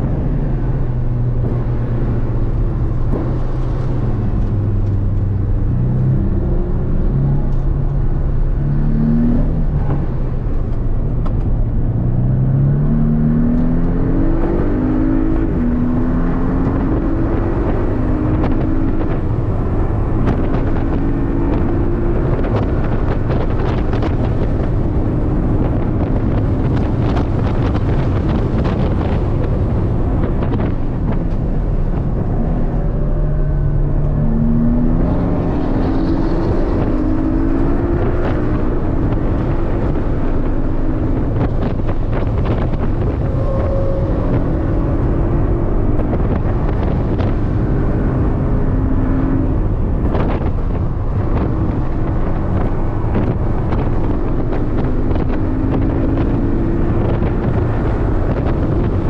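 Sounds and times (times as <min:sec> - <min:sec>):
car engine revving: 0:00.0 - 0:59.0
road and wind noise: 0:00.0 - 0:59.0.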